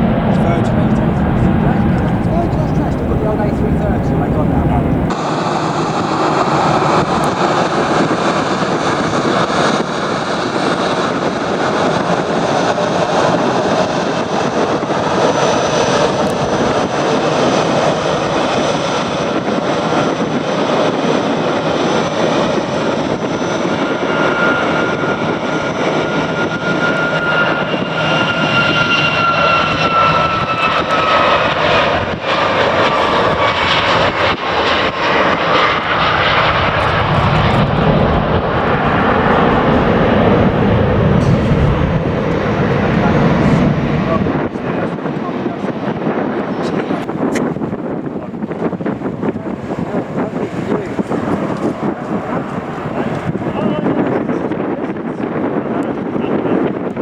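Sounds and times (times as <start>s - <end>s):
jet airliner engines passing: 0.0s - 57.0s.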